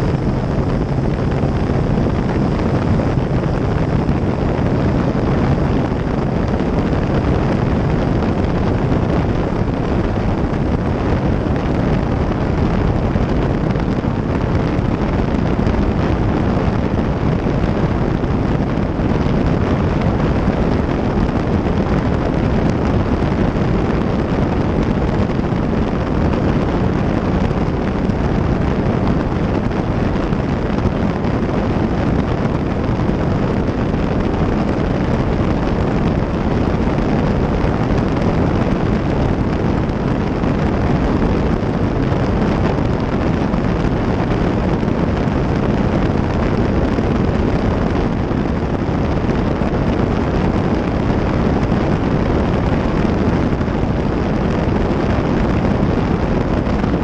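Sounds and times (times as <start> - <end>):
wind rushing: 0.0 - 57.0.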